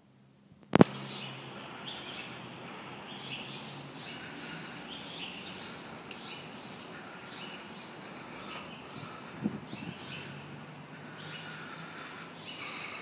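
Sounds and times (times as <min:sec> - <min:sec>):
steady outdoor hiss: 0:00.0 - 0:13.0
small bird chirping: 0:00.7 - 0:13.0.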